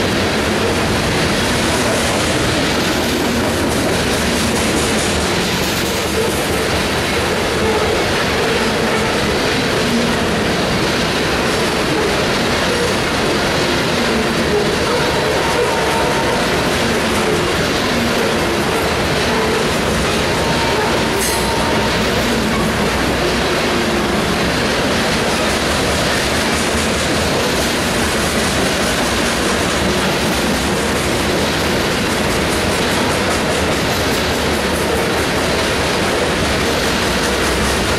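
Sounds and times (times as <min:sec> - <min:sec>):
freight train wheels rumbling: 0:00.0 - 0:37.9.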